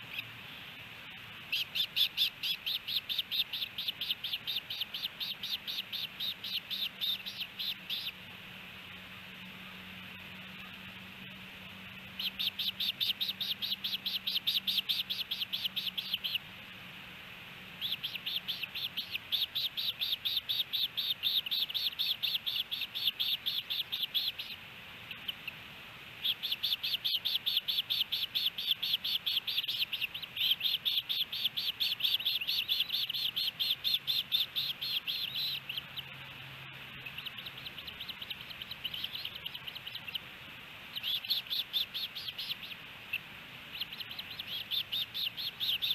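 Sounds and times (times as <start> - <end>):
ospreys whistled chirps: 1.4 - 8.2, 12.0 - 16.4, 17.8 - 25.6, 26.2 - 36.3, 36.9 - 40.3, 40.9 - 45.9.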